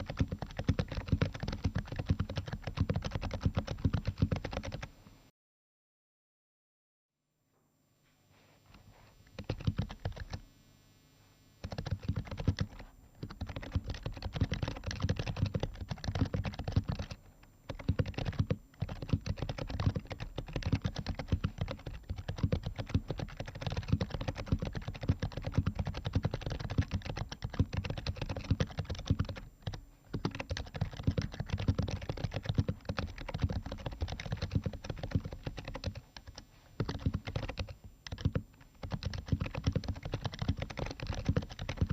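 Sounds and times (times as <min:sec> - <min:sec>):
keyboard typing: 0:00.0 - 0:04.9, 0:09.3 - 0:10.4, 0:11.6 - 0:41.9.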